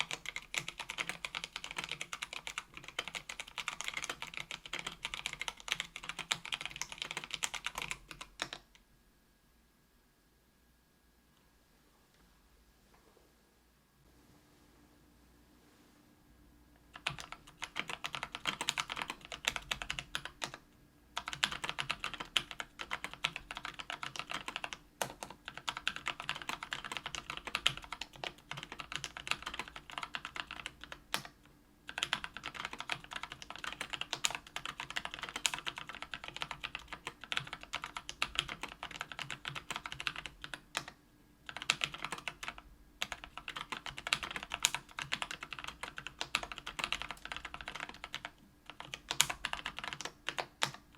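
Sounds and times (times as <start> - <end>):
rapid typing on keyboard: 0.0 - 8.7, 16.9 - 20.6, 21.2 - 50.9.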